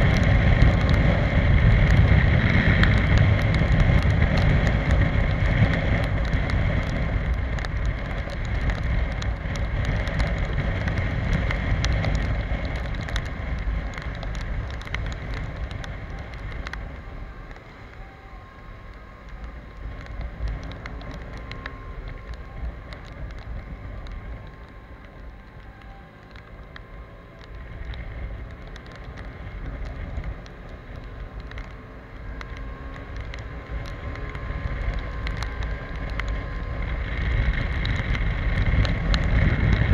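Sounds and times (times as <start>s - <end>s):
raindrops ticking on camera: 0.0s - 39.9s
wind rushing over microphone: 0.0s - 39.9s.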